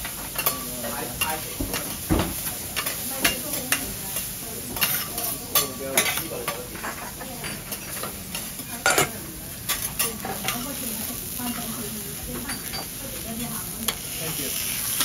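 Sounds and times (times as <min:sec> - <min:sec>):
bean sprouts sizzling on griddle: 0:00.0 - 0:15.0.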